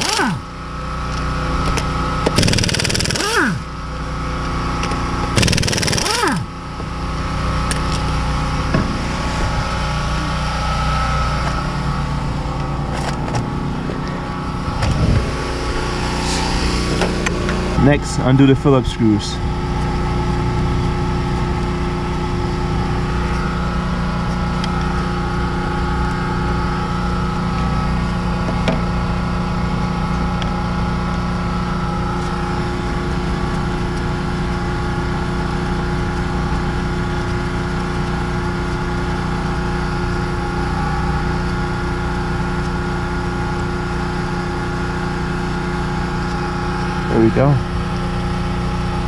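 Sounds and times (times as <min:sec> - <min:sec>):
engine humming: 0:00.0 - 0:49.0.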